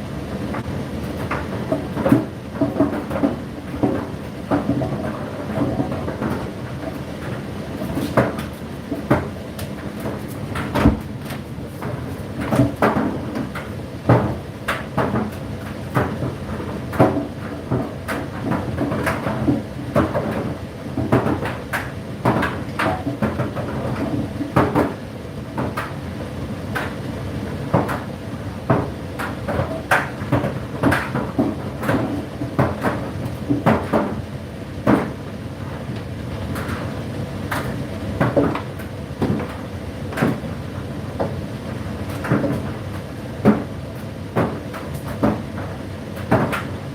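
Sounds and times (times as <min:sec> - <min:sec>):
laundry tumbling in drum: 0:00.3 - 0:25.9, 0:26.8 - 0:46.9.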